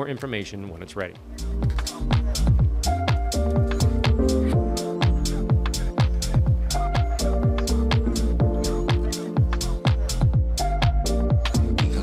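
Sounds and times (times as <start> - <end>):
synth chords: 1.2 - 12.0
kick drum beat: 1.6 - 12.0.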